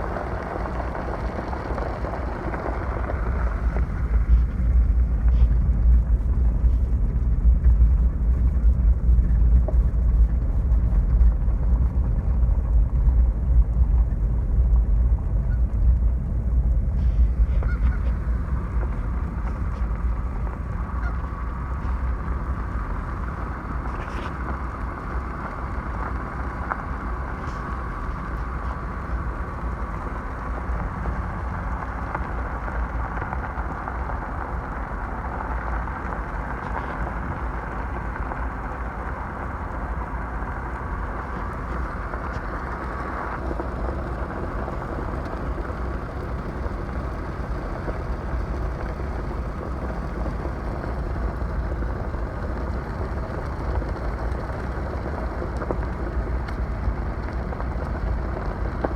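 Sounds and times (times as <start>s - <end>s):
low rumble of wind: 0.0s - 58.9s.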